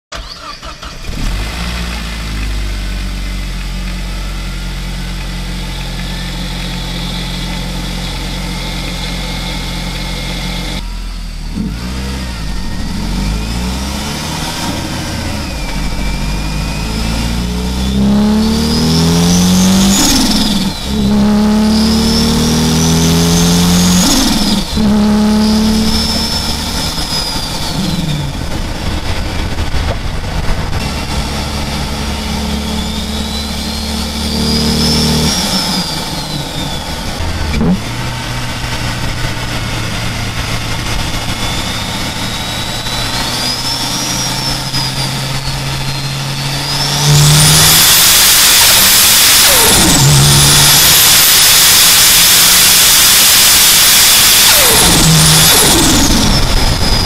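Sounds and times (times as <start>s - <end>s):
car engine idling and revving: 0.0s - 57.0s
high turbo whistle: 4.1s - 57.0s.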